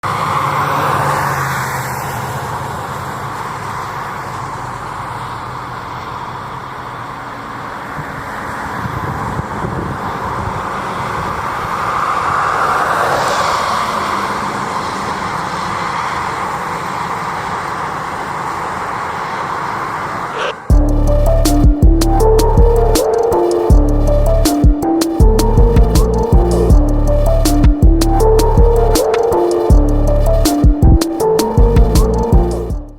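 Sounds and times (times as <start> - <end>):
car driving by: 0.0 - 32.9.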